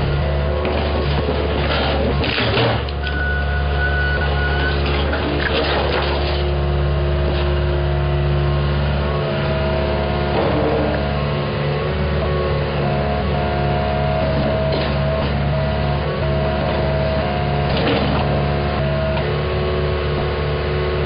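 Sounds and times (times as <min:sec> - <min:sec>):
engine running with low hum: 0:00.0 - 0:21.0.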